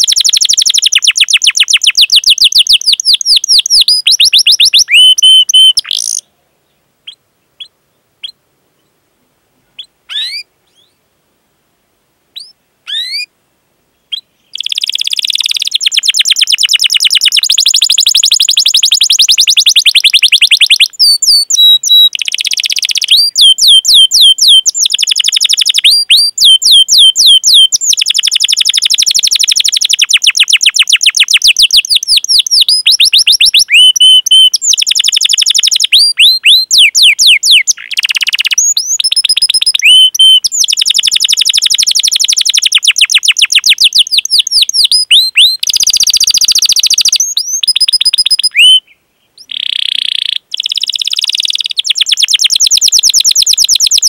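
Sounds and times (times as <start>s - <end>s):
canary singing trills: 0.0s - 6.3s, 9.8s - 11.0s, 12.4s - 13.3s, 14.1s - 54.0s.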